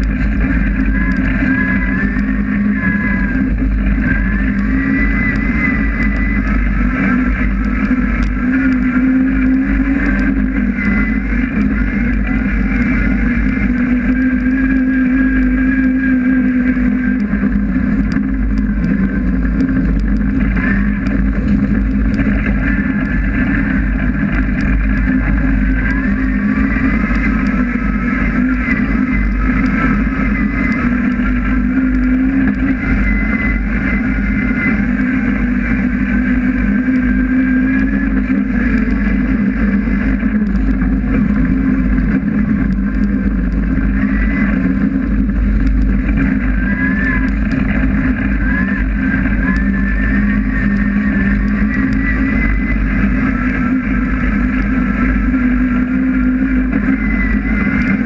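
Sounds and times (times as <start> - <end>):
car engine running hard: 0.0 - 58.0.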